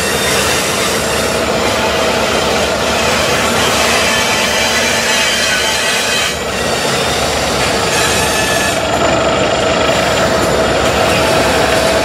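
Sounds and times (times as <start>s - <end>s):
train wheels rattling on rails: 0.0s - 12.0s
wheels squealing: 0.0s - 12.0s.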